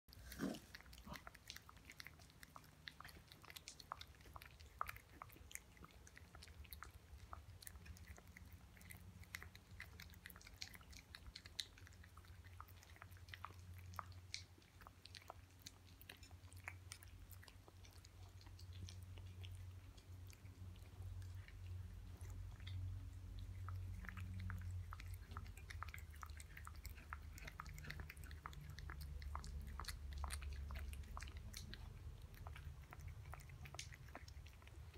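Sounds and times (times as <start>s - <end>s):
cat chewing and lapping food: 0.1s - 34.9s
low steady hum: 0.1s - 34.9s.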